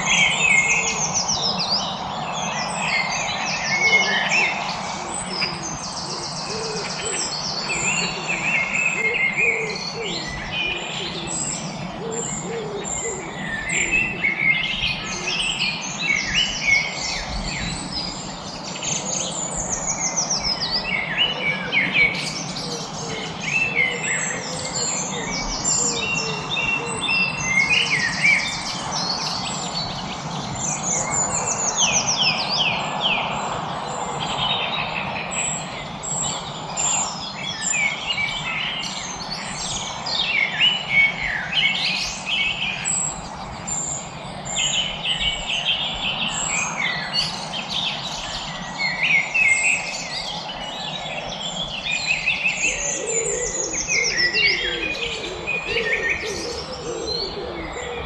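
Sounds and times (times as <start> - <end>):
lower bird calls: 0.0 - 58.0
songbirds chirping and trilling: 0.0 - 58.0
steady background hiss: 0.0 - 58.0.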